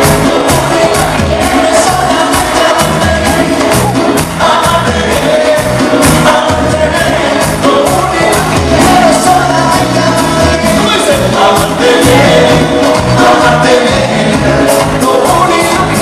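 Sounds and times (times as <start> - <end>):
congas: 0.0 - 16.0
latin pop band playing: 0.0 - 16.0
man singing: 0.0 - 16.0.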